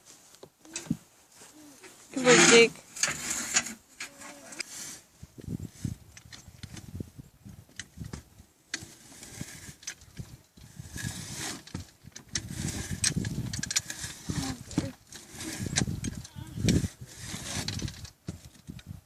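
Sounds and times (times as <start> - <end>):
tools scraping ash: 1.8 - 6.9, 7.9 - 18.8.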